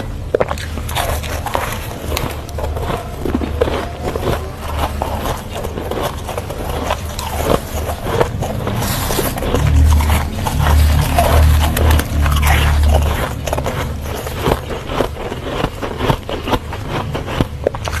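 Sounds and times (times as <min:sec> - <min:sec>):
crunching ice between teeth: 0:00.0 - 0:18.0
deep low chewing rumble: 0:00.0 - 0:18.0.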